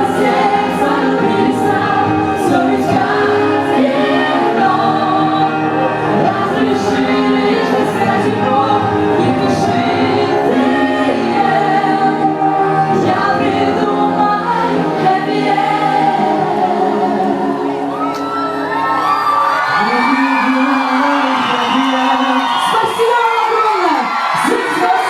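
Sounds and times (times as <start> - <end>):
choir singing sustained notes: 0.0 - 22.2.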